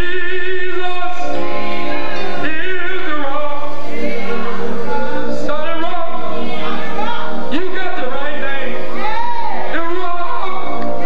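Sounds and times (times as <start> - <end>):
man singing into a microphone: 0.0 - 8.8, 9.6 - 10.7
music backing: 0.0 - 11.0.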